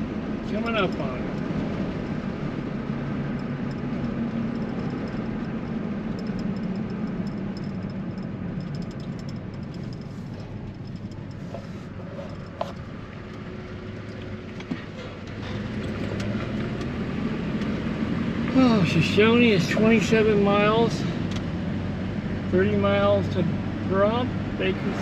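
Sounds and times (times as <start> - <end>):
car engine and tyre hum: 0.0 - 25.0.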